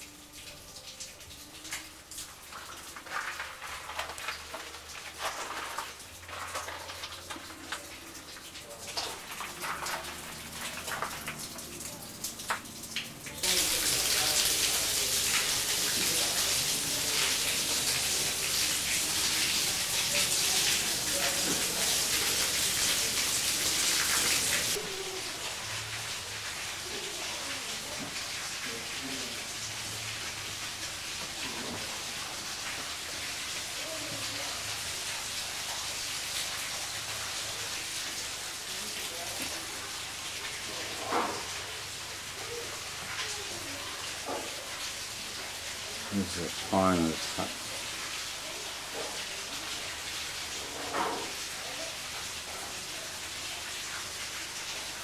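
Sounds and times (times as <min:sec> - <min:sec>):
faint indistinct voices: 0:00.0 - 0:55.0
running water rushing: 0:00.0 - 0:55.0.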